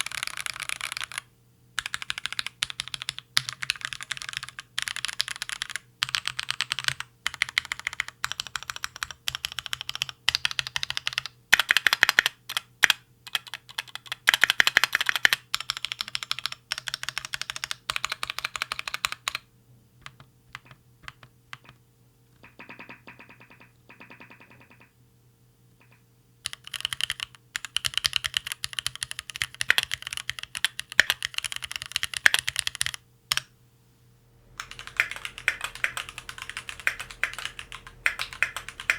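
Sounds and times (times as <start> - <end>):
mechanical keyboard typing: 0.0 - 19.4, 20.0 - 21.8, 22.4 - 24.9, 25.8 - 33.5, 34.5 - 38.9.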